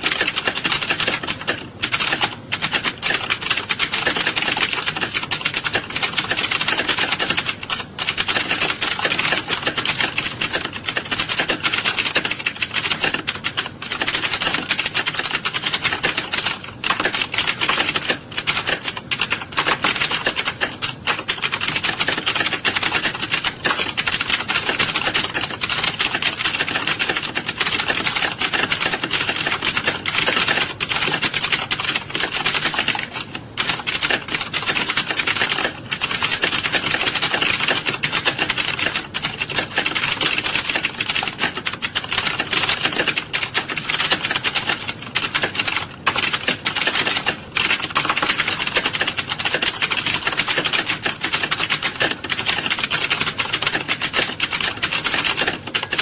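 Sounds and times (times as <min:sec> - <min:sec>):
many keyboards clattering: 0:00.0 - 0:56.0.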